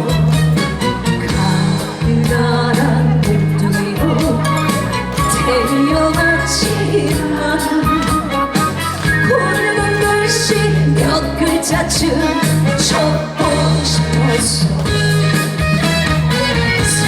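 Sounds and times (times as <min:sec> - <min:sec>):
backing music with bass and beat: 0:00.0 - 0:17.0
woman singing: 0:01.2 - 0:15.2.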